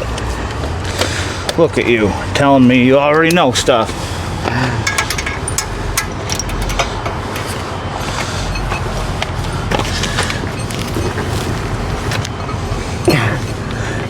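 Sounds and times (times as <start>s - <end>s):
rushing background noise: 0.0s - 14.0s.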